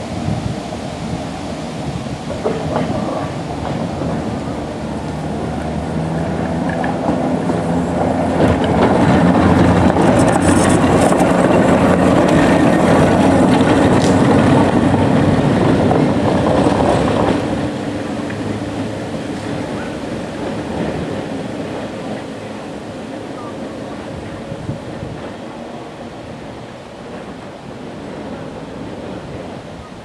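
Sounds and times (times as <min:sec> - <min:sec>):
tram rumbling on rails: 0:00.0 - 0:30.0
light clicks of tram wheels: 0:02.2 - 0:30.0.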